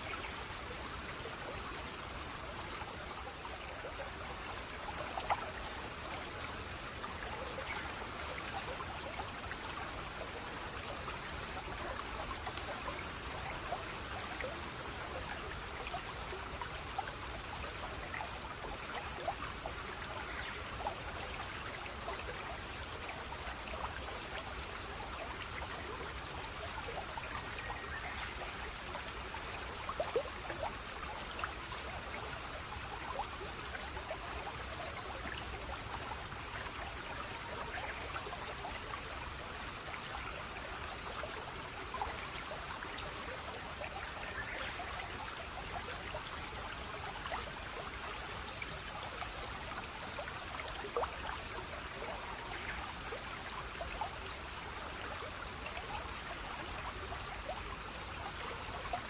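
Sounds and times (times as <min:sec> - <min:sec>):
flowing water: 0:00.0 - 0:59.0
small water splashes: 0:00.0 - 0:59.0.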